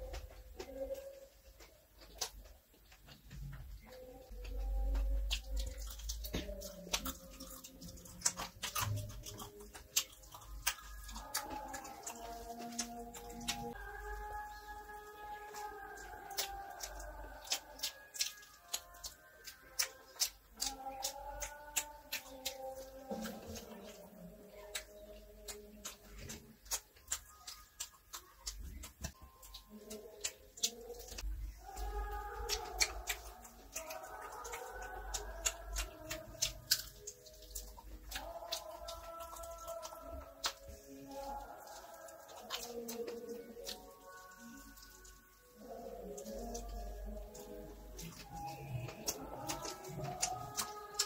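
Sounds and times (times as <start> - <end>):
faint music with held notes: 0.0 - 51.0
wet chewing: 0.0 - 51.0.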